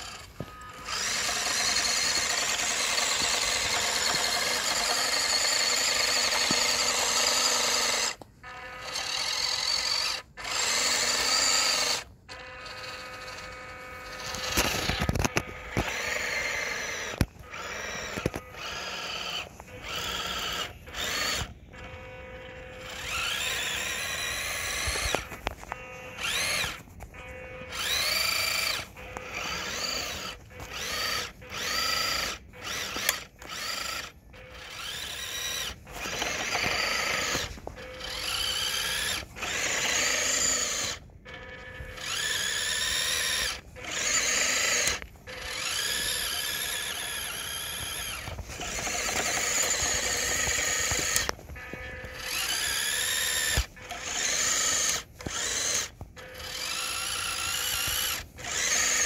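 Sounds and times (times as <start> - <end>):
small electric motor whining: 0.0 - 59.0.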